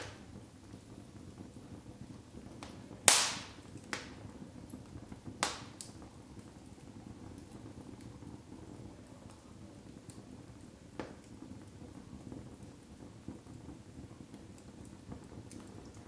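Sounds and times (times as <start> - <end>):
sharp pops from fire: 0.0 - 16.0
wood fire crackling: 0.0 - 16.0.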